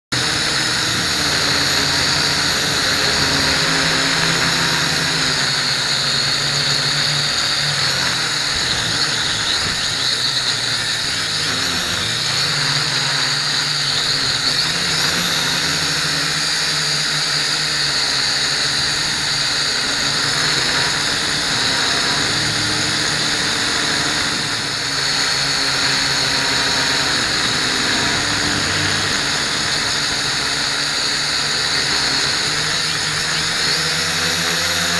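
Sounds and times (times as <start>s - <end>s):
quadcopter motors whining: 0.0s - 34.9s.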